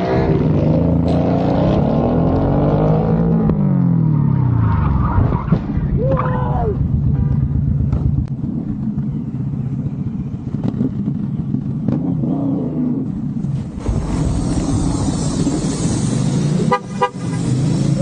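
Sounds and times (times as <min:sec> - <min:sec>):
vehicle engines in traffic: 0:00.0 - 0:18.0.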